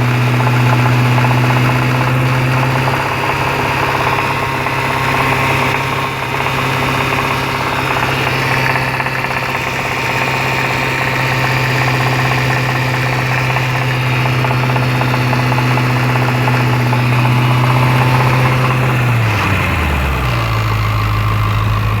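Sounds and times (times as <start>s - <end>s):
car engine idling with knocking: 0.0s - 22.0s.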